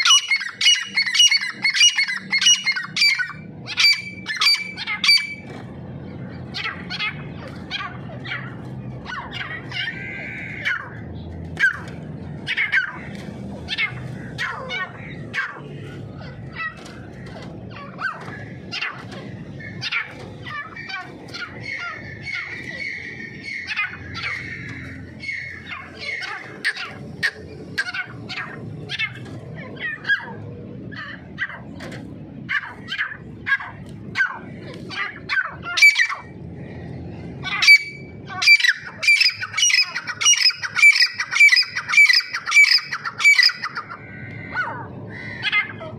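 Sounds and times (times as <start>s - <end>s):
partridges calling: 0.0s - 30.3s, 32.5s - 36.3s, 37.4s - 45.8s.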